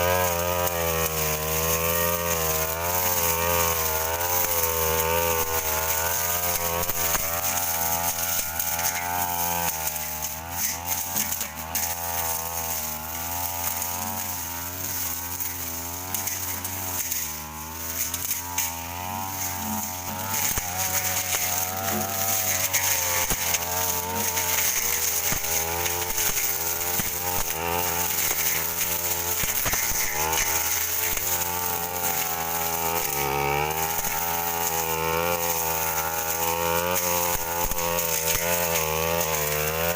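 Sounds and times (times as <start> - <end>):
blade cutting undergrowth: 0.0 - 39.9
brush cutter engine running: 0.0 - 39.9.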